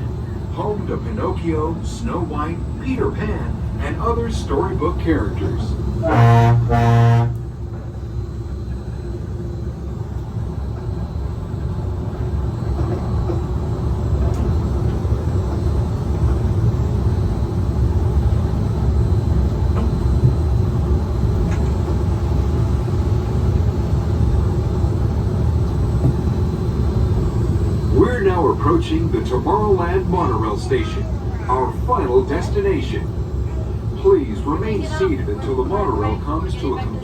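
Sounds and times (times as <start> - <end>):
train running gear rumble: 0.0 - 37.0.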